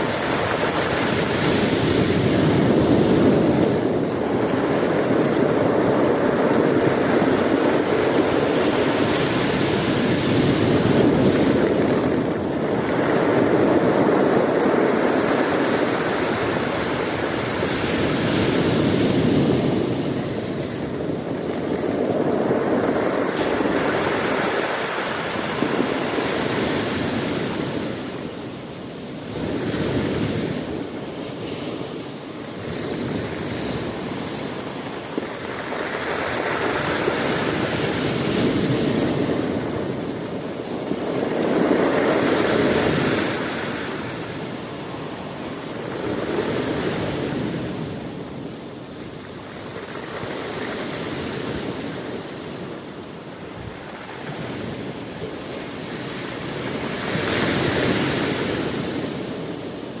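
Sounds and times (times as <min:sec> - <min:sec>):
ocean waves breaking on shore: 0:00.0 - 1:00.0
wind on microphone: 0:00.0 - 1:00.0.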